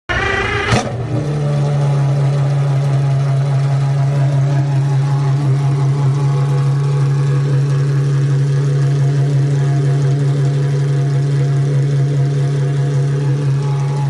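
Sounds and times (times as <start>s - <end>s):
car engine idling: 0.1s - 14.0s.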